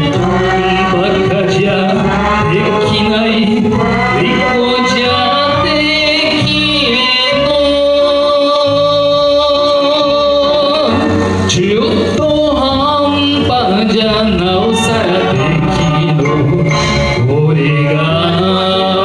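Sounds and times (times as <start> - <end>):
karaoke backing track: 0.0 - 19.0
person singing into a microphone: 0.0 - 19.0.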